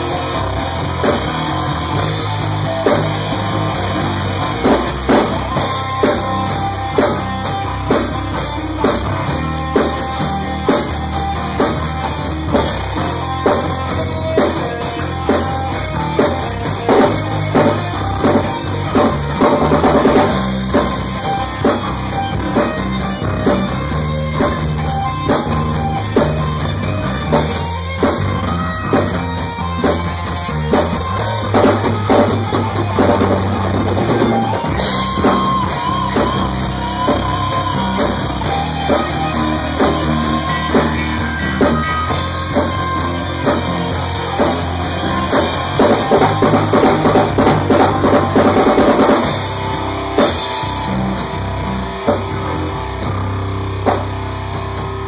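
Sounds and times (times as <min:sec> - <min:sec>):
drum kit: 0:00.0 - 0:55.0
rock band playing: 0:00.0 - 0:55.0.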